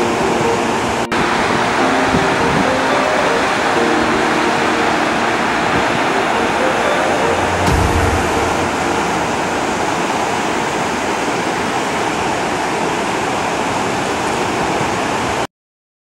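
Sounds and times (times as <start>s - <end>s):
water rushing over weir: 0.0s - 15.4s.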